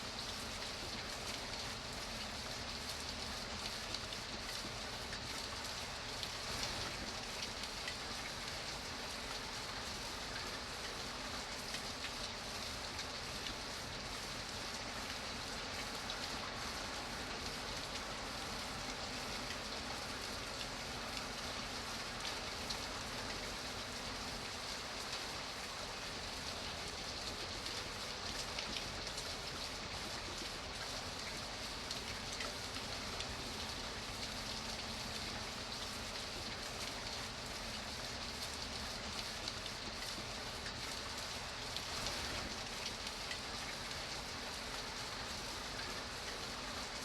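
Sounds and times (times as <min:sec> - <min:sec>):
steady rain patter: 0:00.0 - 0:47.0.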